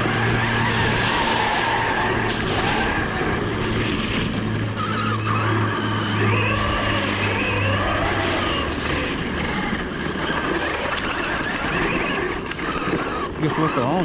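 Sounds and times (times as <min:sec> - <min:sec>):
electric motor whining: 0:00.0 - 0:14.0
steady low hum: 0:00.0 - 0:14.0.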